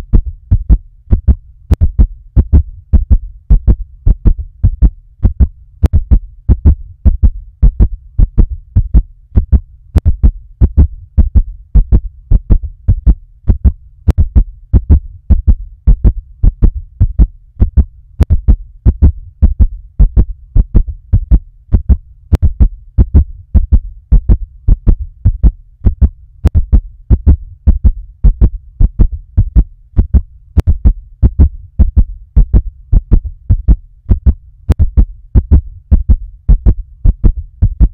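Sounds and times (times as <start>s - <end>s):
fast heartbeat thumps: 0.0s - 37.9s
steady low hum: 0.0s - 37.9s.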